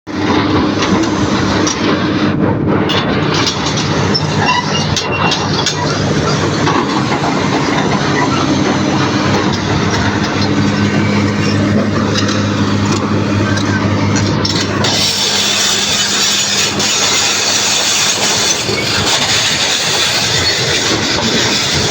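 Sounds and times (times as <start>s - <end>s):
excavator diesel engine running: 0.1s - 21.9s
metallic clanks and ticks: 0.2s - 21.9s.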